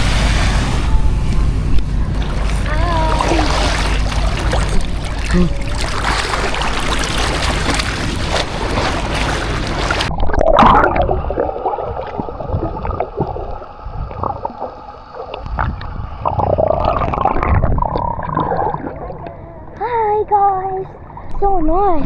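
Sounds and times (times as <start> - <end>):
muffled water sloshing and gurgling: 0.0 - 22.0.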